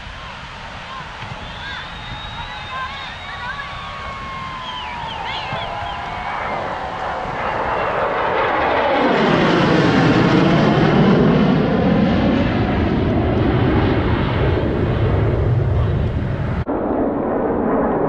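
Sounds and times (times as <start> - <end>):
low-flying jets roaring overhead: 0.0 - 18.0.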